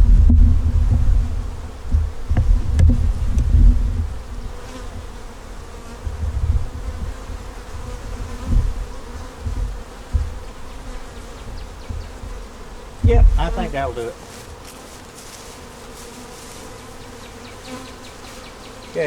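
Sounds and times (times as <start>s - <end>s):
bees buzzing: 0.0s - 19.0s
hive boxes knocking and rumbling: 0.0s - 19.0s.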